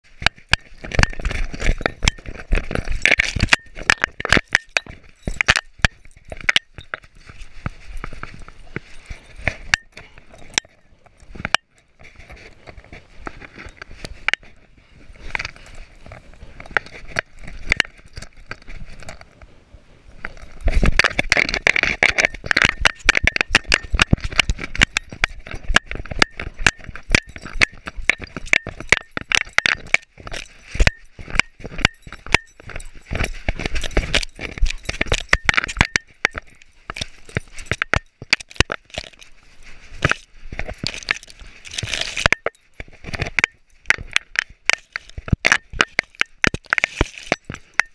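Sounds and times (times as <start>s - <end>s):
dog collar gear clinking: 0.0s - 19.4s, 20.1s - 47.9s.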